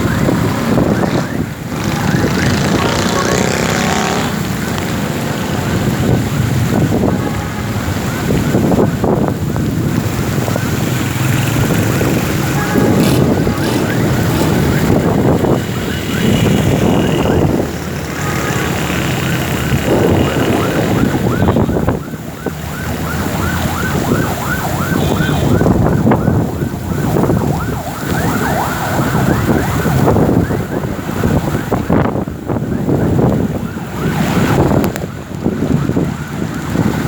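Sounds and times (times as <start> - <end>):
heavy rain: 0.0 - 37.0
siren wailing: 0.0 - 37.0
traffic noise: 0.0 - 37.0
wind buffeting microphone: 0.0 - 37.0.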